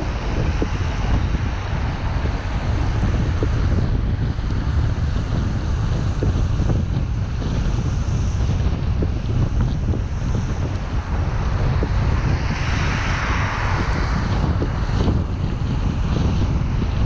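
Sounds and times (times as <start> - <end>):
tyres on wet road: 0.0 - 17.0
wind on microphone: 0.0 - 17.0.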